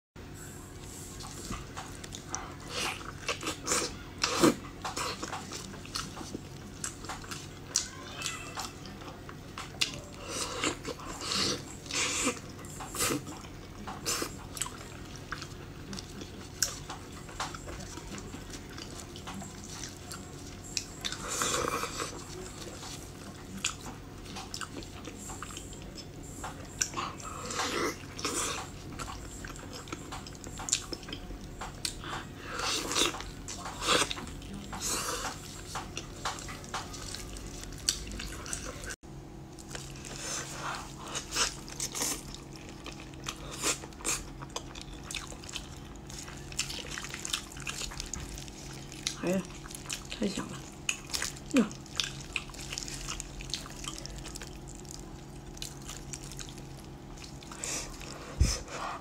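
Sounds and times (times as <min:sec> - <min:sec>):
chicken being chewed: 0:01.0 - 0:59.0.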